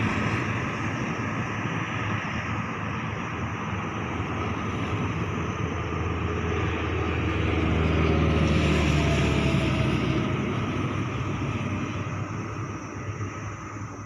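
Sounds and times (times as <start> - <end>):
aircraft turbine engine: 0.0 - 14.0.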